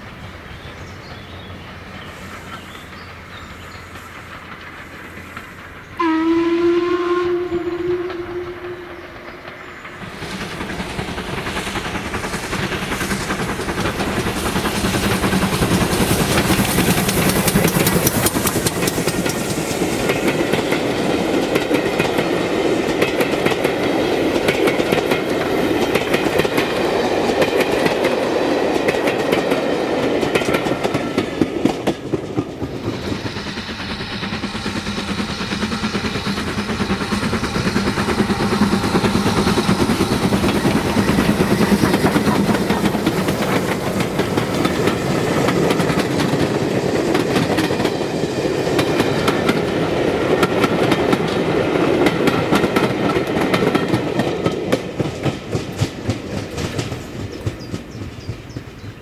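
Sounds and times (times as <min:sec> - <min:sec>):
train wheels clattering over rail joints: 0:00.0 - 0:06.2, 0:07.6 - 0:59.0.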